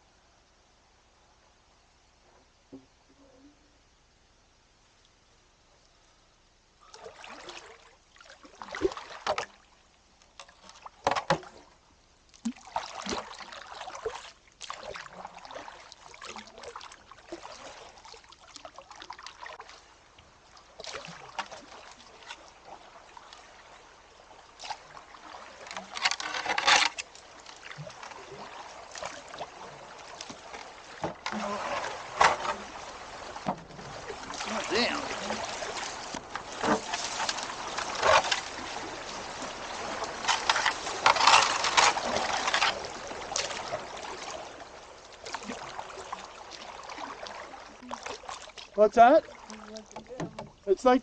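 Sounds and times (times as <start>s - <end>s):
paddle splashing in water: 6.8s - 51.0s
water trickling: 6.8s - 51.0s.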